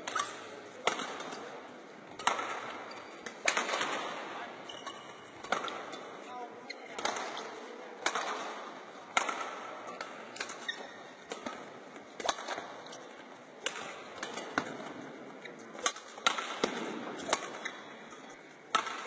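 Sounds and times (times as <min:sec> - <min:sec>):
rackets hitting shuttlecocks: 0:00.0 - 0:06.3, 0:06.9 - 0:19.0.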